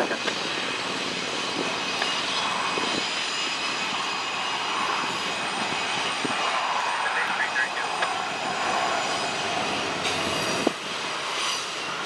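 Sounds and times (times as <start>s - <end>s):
freight train running: 0.0s - 12.0s.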